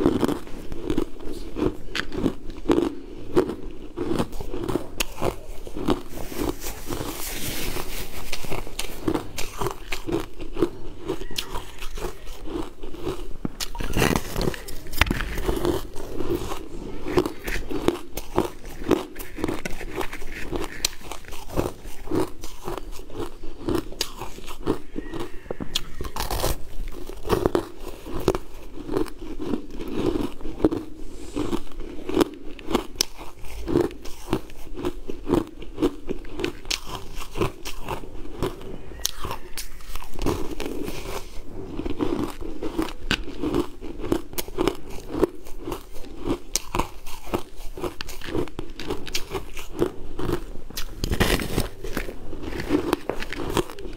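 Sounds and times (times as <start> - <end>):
crunching and chewing ice: 0.0 - 53.9.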